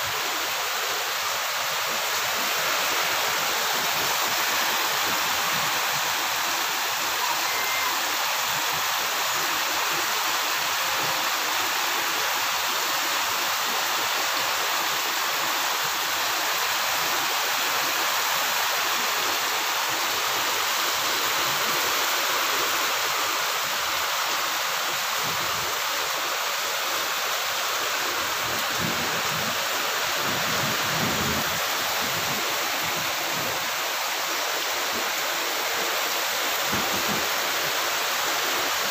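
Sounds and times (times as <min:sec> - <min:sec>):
heavy rain falling: 0:00.0 - 0:38.9
water pouring off a roof: 0:00.0 - 0:38.9.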